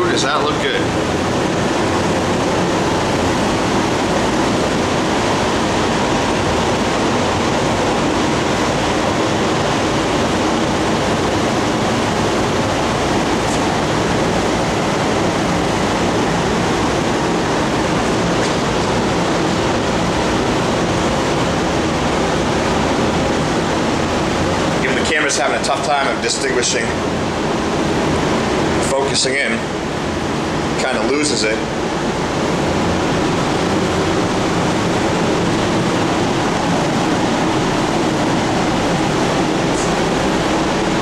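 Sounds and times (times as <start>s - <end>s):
loud steady rushing noise: 0.0s - 41.0s.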